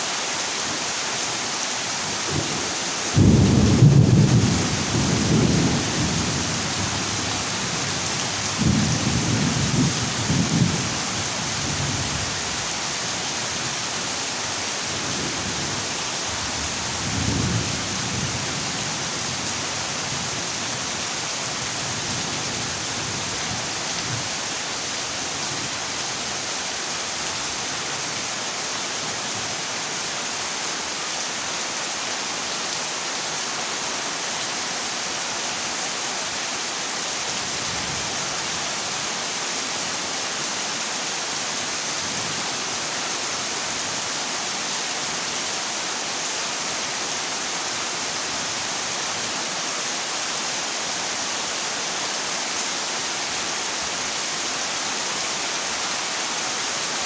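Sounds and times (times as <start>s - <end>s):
heavy rain on metal roof: 0.0s - 57.0s.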